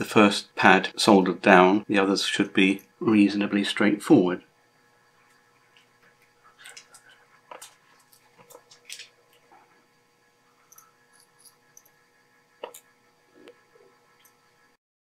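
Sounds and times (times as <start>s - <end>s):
faint steady hum: 0.0s - 14.8s.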